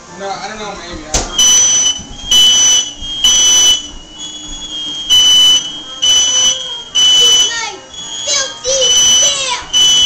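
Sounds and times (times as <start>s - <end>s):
smoke alarm beeping: 1.2s - 10.0s.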